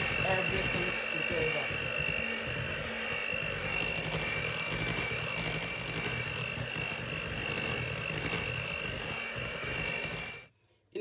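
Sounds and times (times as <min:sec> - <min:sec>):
electric hand mixer whining: 0:00.0 - 0:10.5.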